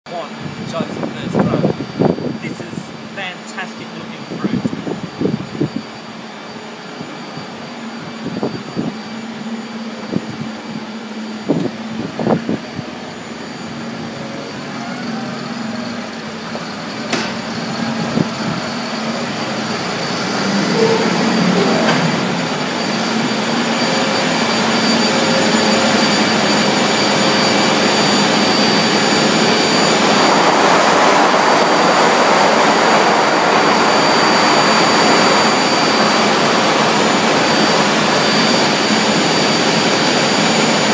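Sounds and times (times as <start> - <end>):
faint high whine: 0.1 - 40.9
machinery running: 0.1 - 40.9.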